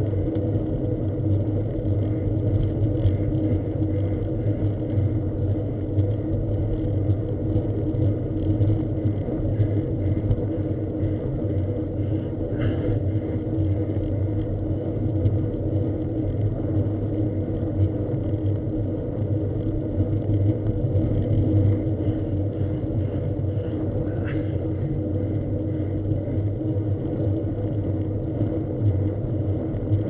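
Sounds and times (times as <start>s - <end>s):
road and wind rumble: 0.0s - 30.0s
vehicle engine running steadily: 0.0s - 30.0s.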